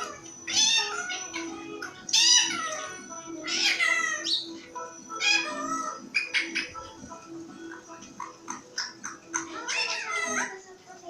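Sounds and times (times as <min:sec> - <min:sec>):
parakeet shrill calls: 0:00.0 - 0:07.0, 0:08.2 - 0:10.6.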